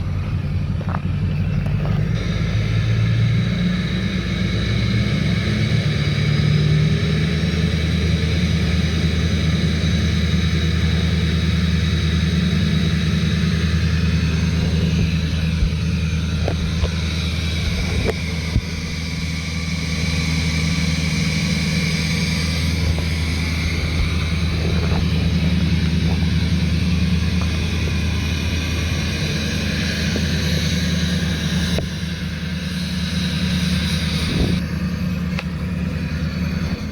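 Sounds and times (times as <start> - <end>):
diesel engine idling: 0.0 - 36.9
turbo whine: 0.0 - 36.9.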